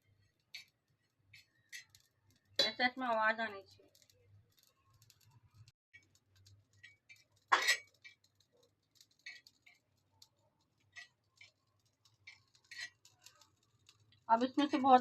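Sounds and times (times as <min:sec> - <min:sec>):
seeds and garlic crackling: 0:00.0 - 0:15.0.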